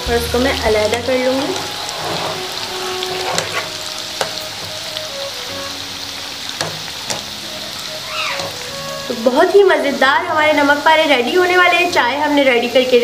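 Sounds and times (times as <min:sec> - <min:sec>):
dough deep-frying in oil: 0:00.0 - 0:13.0.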